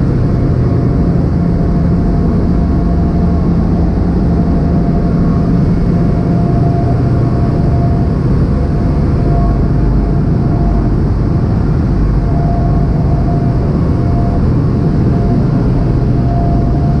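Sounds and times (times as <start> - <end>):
faint high whine: 0.0 - 17.0
ship engines droning: 0.0 - 17.0.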